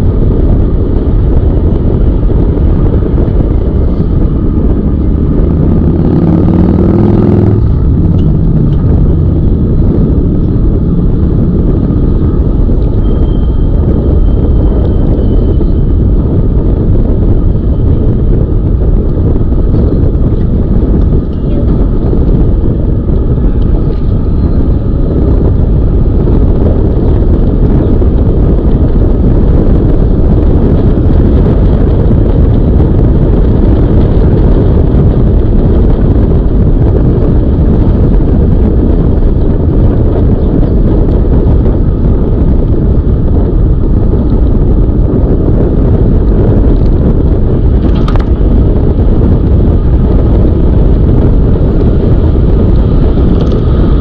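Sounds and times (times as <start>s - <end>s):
tyre and road rumble: 0.0s - 54.0s
wind rushing over microphone: 0.0s - 54.0s.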